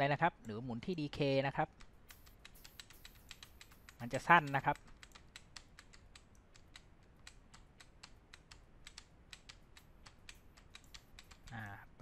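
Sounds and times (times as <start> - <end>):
computer keyboard tapping: 1.7 - 11.8.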